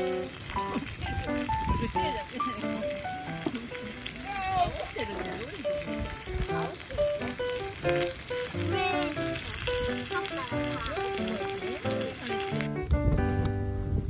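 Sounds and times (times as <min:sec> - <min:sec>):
food sizzling in a pan: 0:00.0 - 0:12.8.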